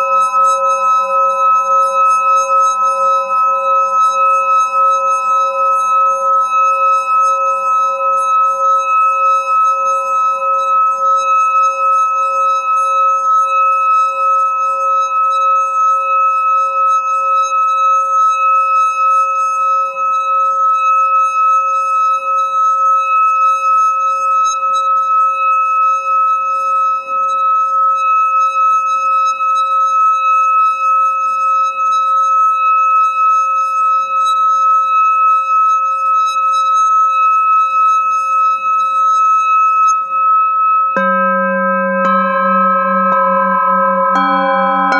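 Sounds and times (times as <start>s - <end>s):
singing bowl tone: 0.0s - 44.9s.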